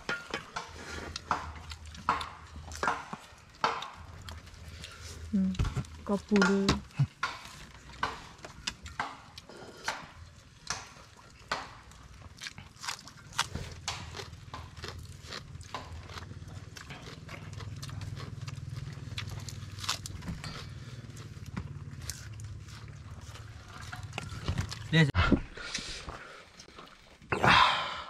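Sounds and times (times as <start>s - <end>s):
people chewing and slurping noodles: 0.0s - 28.0s.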